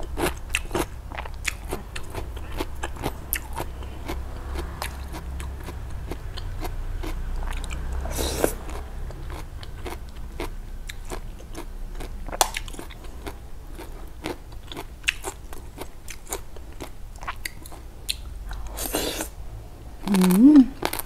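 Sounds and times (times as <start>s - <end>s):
close chewing and crunching: 0.0s - 19.3s, 20.0s - 21.0s.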